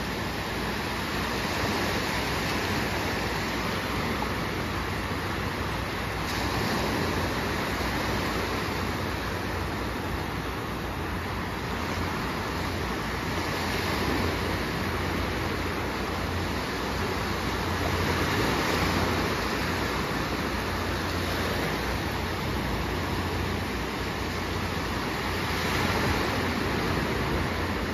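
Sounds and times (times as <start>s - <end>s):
small waves breaking on shore: 0.0s - 27.9s.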